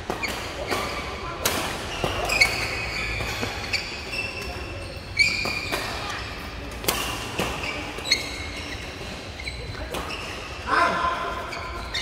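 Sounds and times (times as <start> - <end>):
shoes squeaking on court: 0.1 - 10.6, 11.4 - 12.0.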